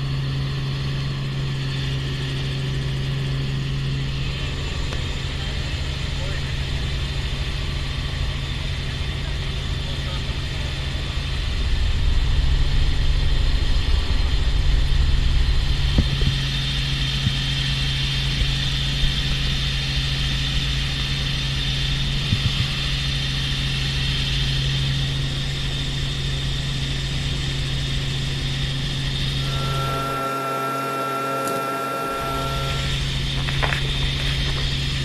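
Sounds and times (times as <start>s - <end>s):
helicopter engine and rotor drone: 0.0s - 35.0s.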